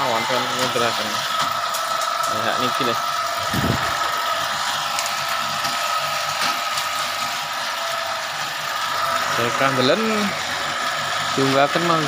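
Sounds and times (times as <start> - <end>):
motor whine: 0.0 - 12.0.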